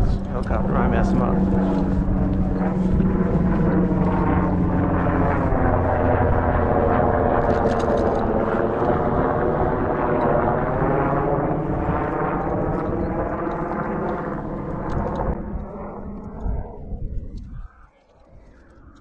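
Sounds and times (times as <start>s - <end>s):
helicopter flying overhead: 0.0s - 19.0s.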